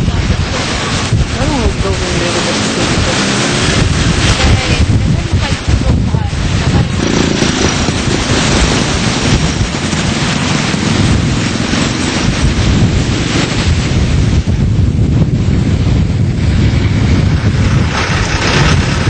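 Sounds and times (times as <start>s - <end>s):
rushing floodwater: 0.0s - 19.0s
wind buffeting microphone: 0.0s - 19.0s.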